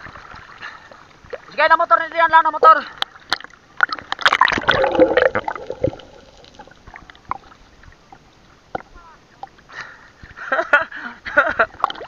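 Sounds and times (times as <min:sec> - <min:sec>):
water splashing and sloshing: 0:00.0 - 0:02.0, 0:02.8 - 0:10.7, 0:11.3 - 0:12.0.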